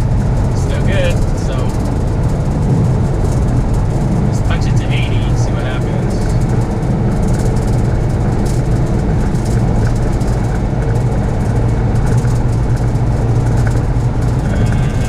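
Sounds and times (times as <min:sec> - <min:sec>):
road noise: 0:00.0 - 0:15.0
van engine drone: 0:00.0 - 0:15.0
wind noise: 0:00.0 - 0:15.0.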